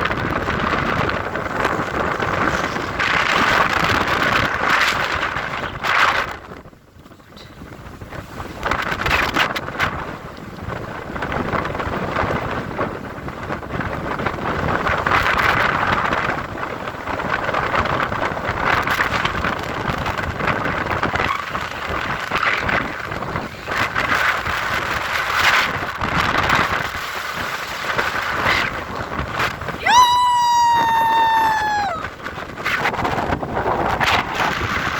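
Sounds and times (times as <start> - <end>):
strong wind on microphone: 0.0 - 34.9.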